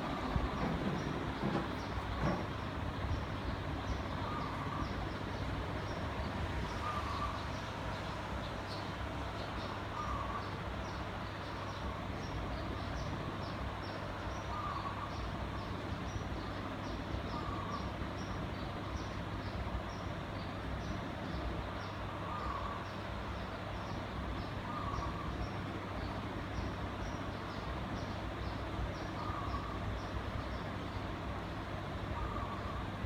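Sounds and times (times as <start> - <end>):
ceiling fan air rush and hum: 0.0 - 33.0.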